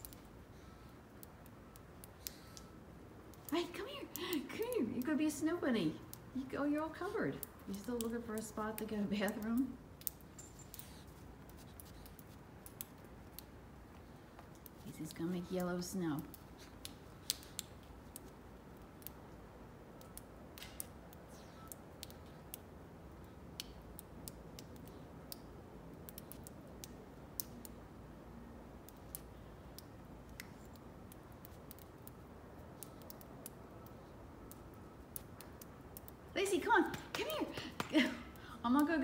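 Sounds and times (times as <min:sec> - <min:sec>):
faint sharp clicks and crackles: 0:00.0 - 0:39.0
low steady outdoor background: 0:00.0 - 0:39.0.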